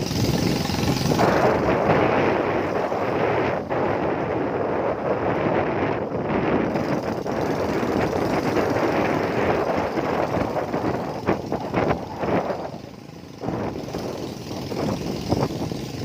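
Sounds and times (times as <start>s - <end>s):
motorcycle engine running: 0.0s - 16.0s
road noise: 0.0s - 16.0s
wind buffeting microphone: 0.0s - 16.0s.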